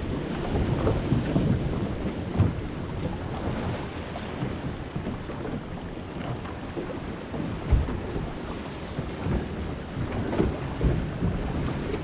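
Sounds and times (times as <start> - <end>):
waves slapping boat hull: 0.0 - 12.0
wind on microphone: 0.0 - 12.0.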